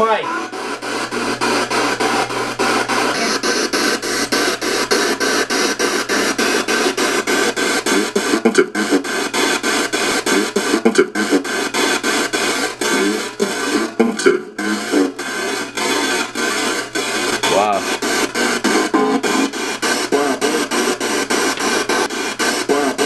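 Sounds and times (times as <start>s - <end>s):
pulsing white-noise static: 0.0s - 23.0s
radio sound fragments: 0.0s - 23.0s.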